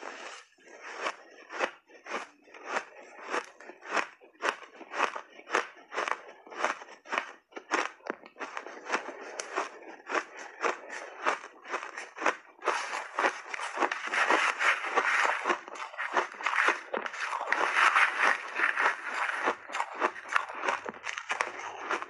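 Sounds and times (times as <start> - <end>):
person crunching ice: 0.0 - 22.0.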